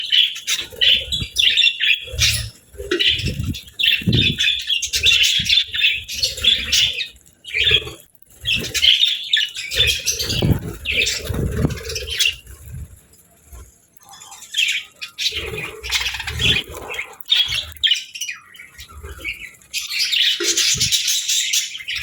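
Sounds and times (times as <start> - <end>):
budgerigars chattering: 0.0 - 12.4, 14.5 - 18.5, 19.2 - 22.0.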